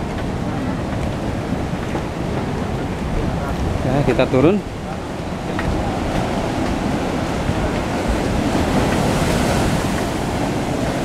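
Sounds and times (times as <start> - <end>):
ocean surf breaking on beach: 0.0 - 11.0
wind on microphone: 0.0 - 11.0.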